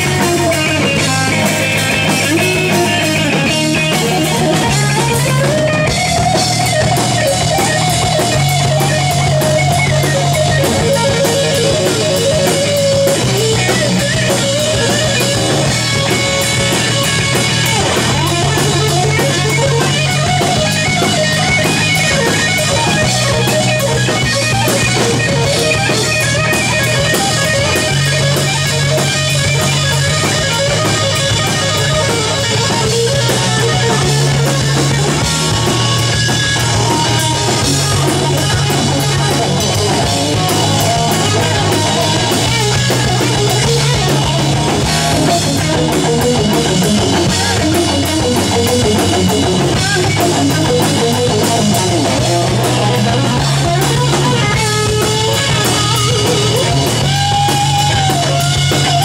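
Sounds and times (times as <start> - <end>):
bass guitar: 0.0 - 59.0
drum kit: 0.0 - 59.0
electric guitar lead: 0.0 - 59.0.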